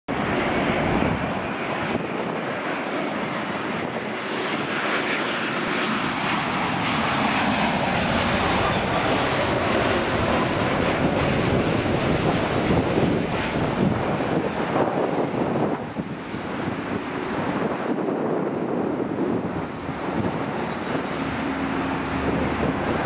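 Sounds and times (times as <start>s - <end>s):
jet engines droning: 0.1s - 23.0s.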